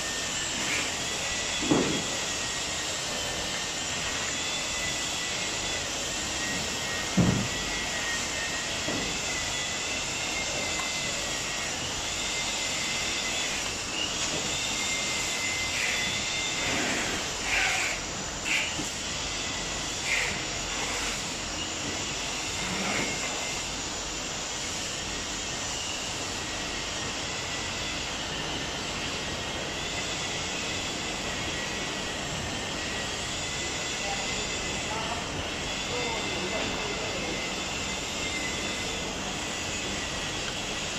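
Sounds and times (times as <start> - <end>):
steady mechanical whir: 0.0 - 40.9
wavering high whine: 0.0 - 40.9.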